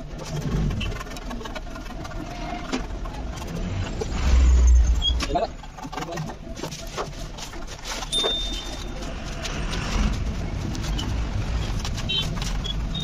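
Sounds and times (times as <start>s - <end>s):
sandpaper scraping plastic: 0.0s - 4.1s, 5.6s - 13.0s.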